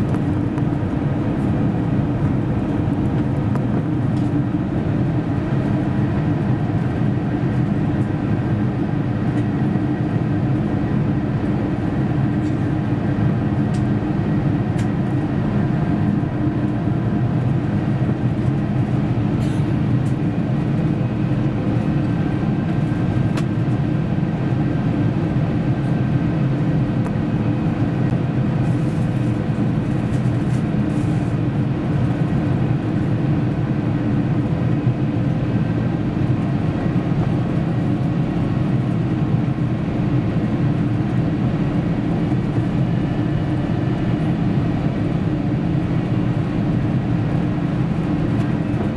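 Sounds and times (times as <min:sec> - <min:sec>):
jet engine drone: 0:00.0 - 0:48.9.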